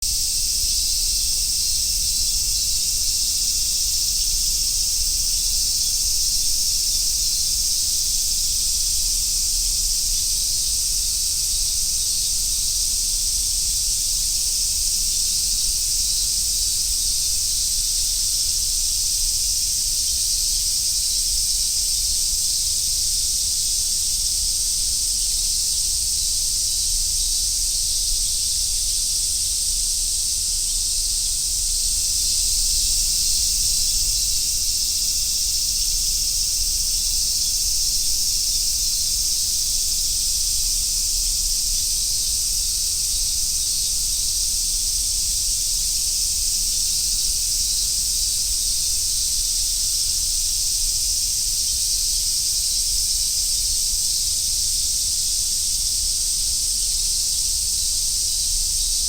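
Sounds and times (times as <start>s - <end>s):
cicadas buzzing drone: 0.0s - 59.0s.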